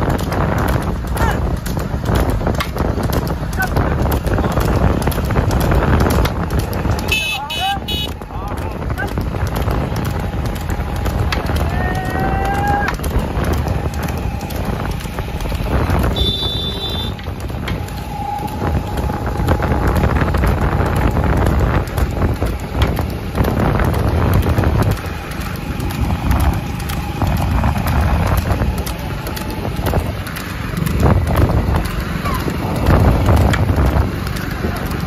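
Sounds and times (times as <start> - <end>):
hooves clattering on road: 0.0 - 35.0
motorcycle running: 0.0 - 35.0
wind buffeting microphone: 0.0 - 35.0
wooden cart rattling: 0.0 - 35.0.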